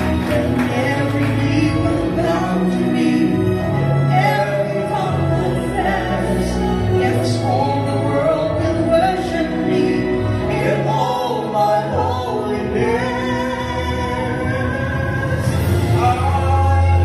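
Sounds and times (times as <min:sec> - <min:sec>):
instrumental backing music: 0:00.0 - 0:17.0
man and woman singing duet: 0:00.0 - 0:17.0.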